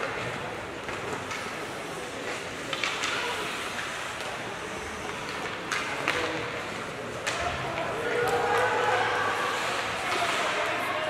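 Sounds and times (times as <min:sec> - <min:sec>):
sticks and puck clacking: 0:00.0 - 0:11.0.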